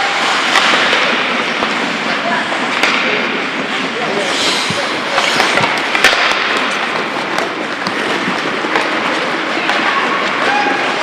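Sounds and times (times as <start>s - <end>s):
hockey sticks and puck clacking: 0.0s - 11.0s
skates scraping on ice: 0.0s - 11.0s.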